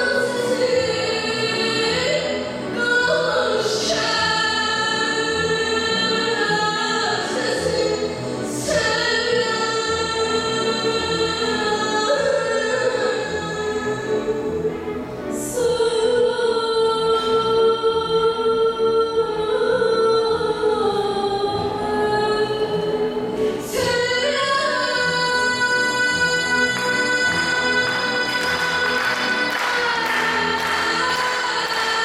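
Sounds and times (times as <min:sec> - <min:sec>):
string orchestra: 0:00.0 - 0:32.0
women singing sustained notes: 0:00.0 - 0:32.0.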